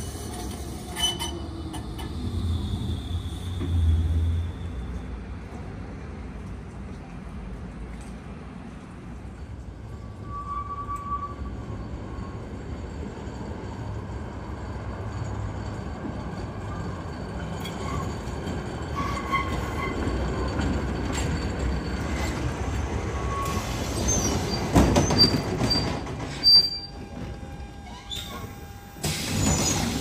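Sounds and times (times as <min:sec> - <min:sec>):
tram wheels squealing: 0:00.0 - 0:05.4, 0:09.7 - 0:30.0
tram running on track: 0:00.0 - 0:30.0.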